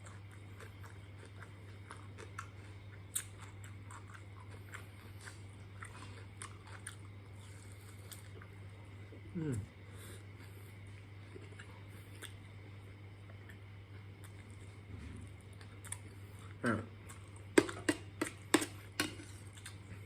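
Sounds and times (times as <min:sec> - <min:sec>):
low steady hum: 0:00.0 - 0:20.0
sharp crunches of eating: 0:00.0 - 0:20.0.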